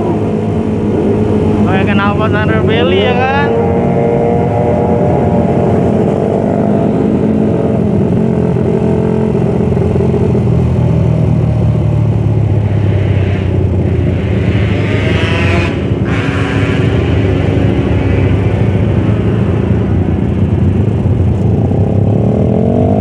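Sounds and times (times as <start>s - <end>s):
motorcycle engine running: 0.0s - 23.0s
other motorcycles: 0.0s - 23.0s.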